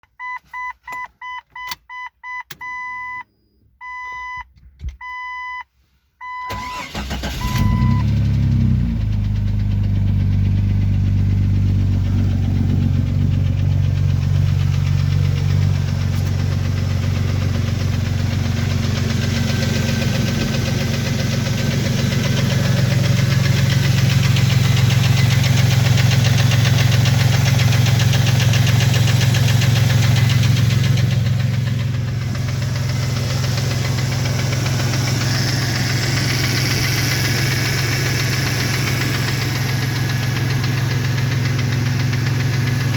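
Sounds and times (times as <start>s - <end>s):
car engine cranking and idling: 6.3s - 42.9s.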